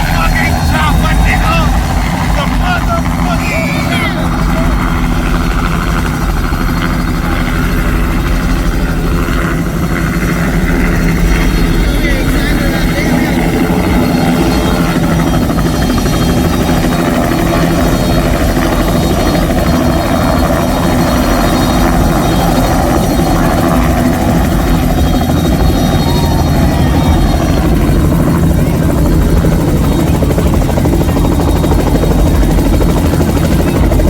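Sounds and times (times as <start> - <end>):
helicopter rotor chop: 0.0 - 34.0.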